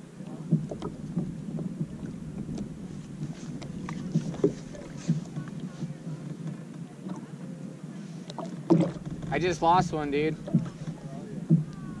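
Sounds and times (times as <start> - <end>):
water lapping against kayak: 0.0 - 12.0.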